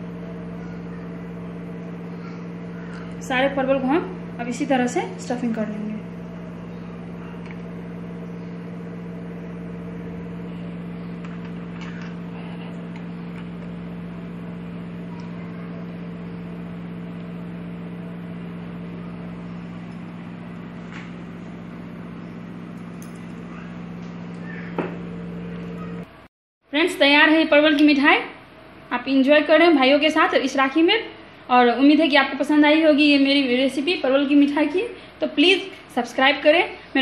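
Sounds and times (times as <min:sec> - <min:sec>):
motor hum with faint hiss: 0:00.0 - 0:37.0.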